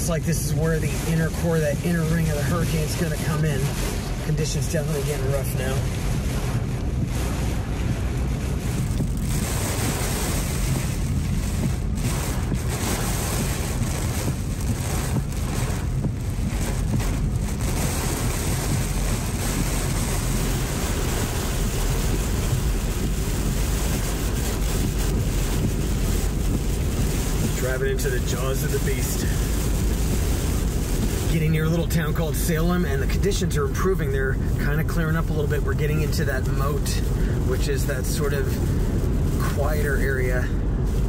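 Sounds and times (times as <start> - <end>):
car rumbling on wet road: 0.0 - 41.0
wind and rain buffeting car: 0.0 - 41.0.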